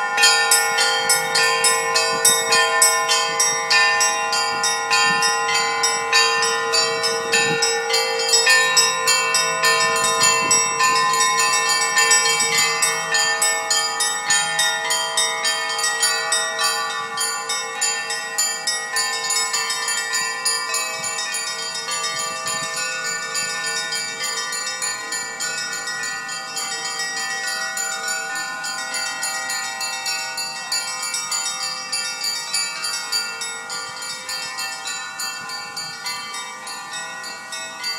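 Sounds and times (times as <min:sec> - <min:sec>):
church bells ringing: 0:00.0 - 0:37.9.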